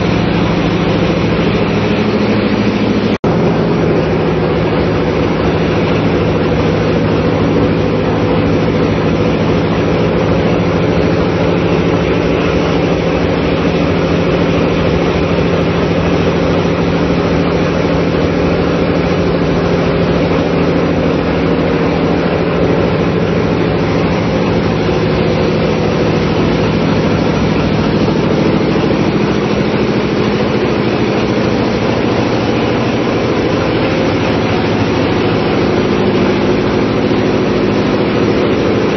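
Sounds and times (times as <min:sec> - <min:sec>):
diesel engine drone: 0:00.0 - 0:38.9
mechanical clatter: 0:00.0 - 0:38.9.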